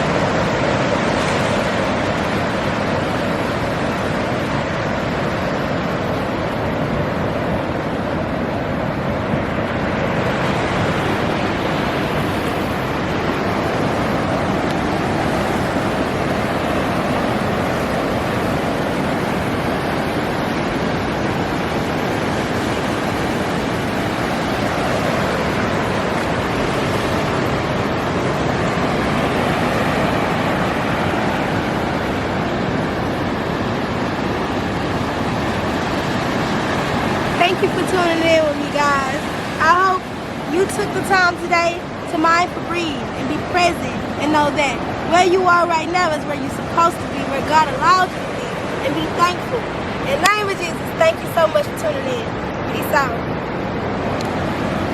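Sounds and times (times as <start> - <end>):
ocean surf washing onto beach: 0.0 - 54.9
wind on microphone: 0.0 - 54.9.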